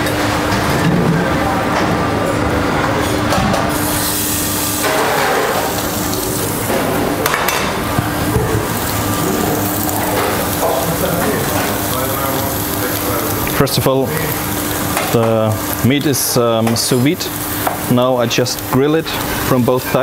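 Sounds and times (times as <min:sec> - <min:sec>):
steady hum: 0:00.0 - 0:20.0
steak sizzling in grill pan: 0:03.7 - 0:20.0.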